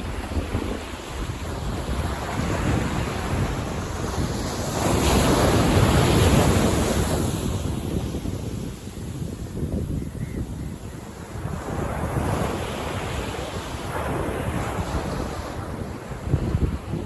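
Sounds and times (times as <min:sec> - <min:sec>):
ocean waves breaking: 0:00.0 - 0:09.8, 0:11.0 - 0:17.0
wind buffeting microphone: 0:00.0 - 0:17.0.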